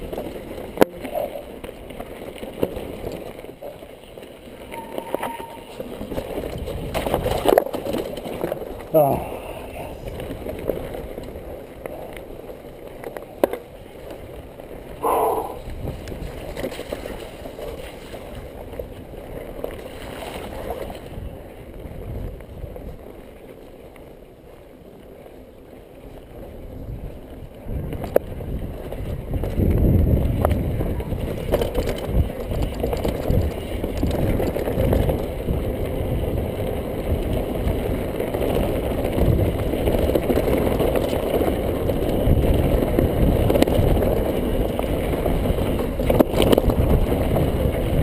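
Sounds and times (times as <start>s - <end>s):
bike tyres rolling on dirt and stones: 0.0s - 48.0s
wind rumbling on microphone: 0.0s - 48.0s.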